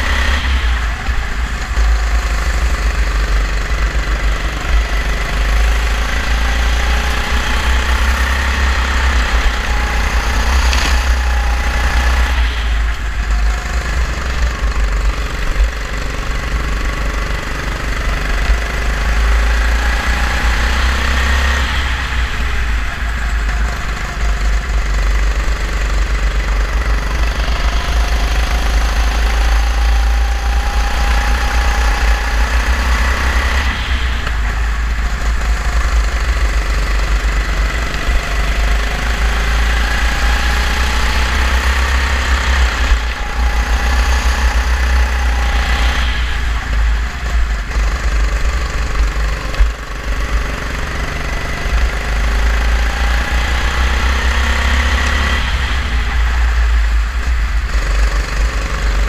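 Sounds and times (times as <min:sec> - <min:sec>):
heavy low rumble: 0:00.0 - 0:59.0
kart engine revving: 0:00.0 - 0:59.0.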